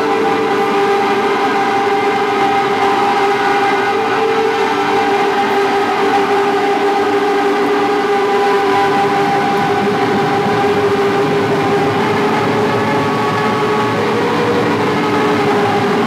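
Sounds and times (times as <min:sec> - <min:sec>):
electric guitars playing: 0:00.0 - 0:16.0.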